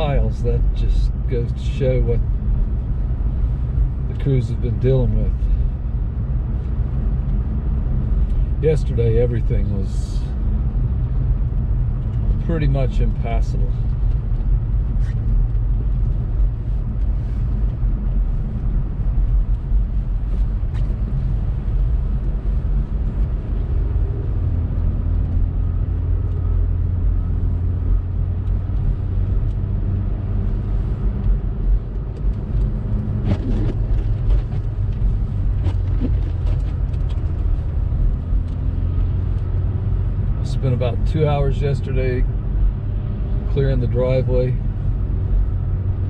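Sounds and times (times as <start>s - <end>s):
car engine rumble: 0.0s - 46.0s
faint steady engine tone: 0.0s - 46.0s
tyres on snowy road: 0.0s - 46.0s.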